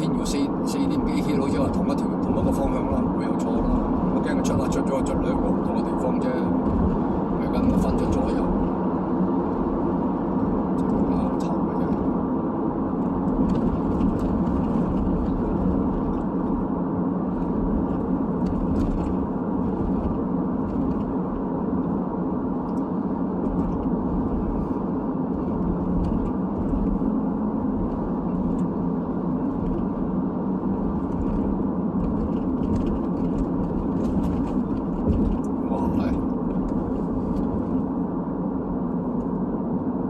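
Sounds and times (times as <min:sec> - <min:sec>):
car road and tyre noise: 0:00.0 - 0:40.0.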